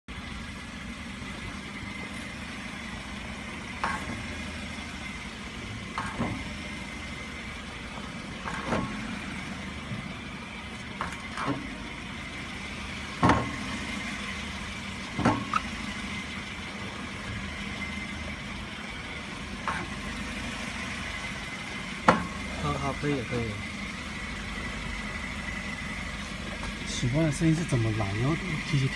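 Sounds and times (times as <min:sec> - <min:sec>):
small car idling: 0:00.1 - 0:28.9.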